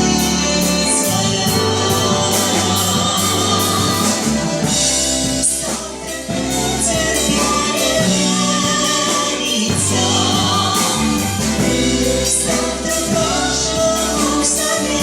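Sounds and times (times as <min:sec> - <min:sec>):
orchestra playing slow song: 0:00.0 - 0:15.0.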